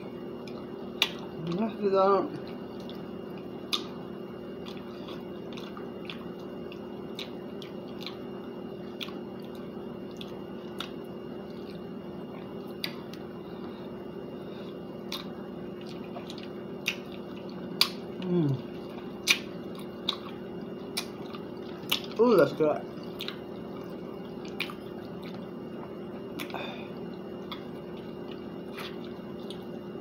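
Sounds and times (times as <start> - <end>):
steady low hum: 0.0 - 30.0
chewing and biting: 0.4 - 1.6, 2.4 - 22.2, 22.8 - 30.0.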